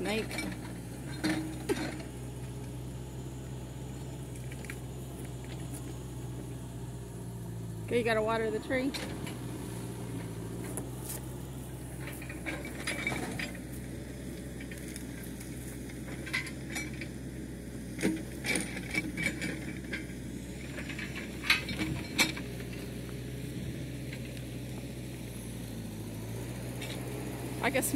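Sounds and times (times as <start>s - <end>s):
low engine hum: 0.0s - 27.9s.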